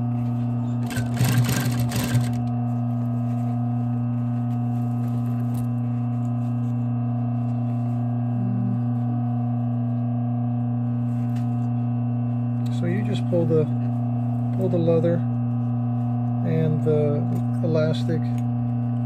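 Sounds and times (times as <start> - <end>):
sewing machine motor hum: 0.0 - 19.0.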